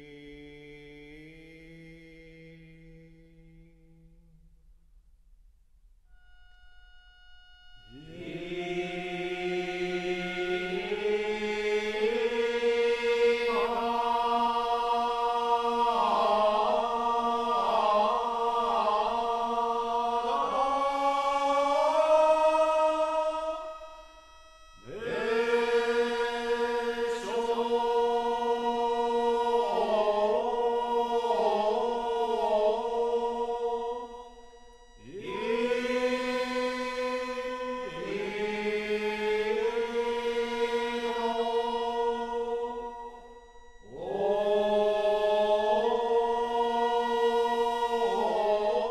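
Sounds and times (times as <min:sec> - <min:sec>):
low voices chanting: 0:07.9 - 0:24.1, 0:24.8 - 0:48.9.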